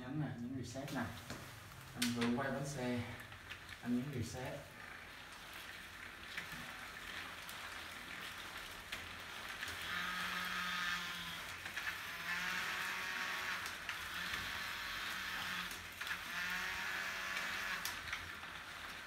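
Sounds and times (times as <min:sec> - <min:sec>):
whirring hum: 0:00.0 - 0:19.0
bike wheel spinning ticking hiss: 0:01.3 - 0:19.0.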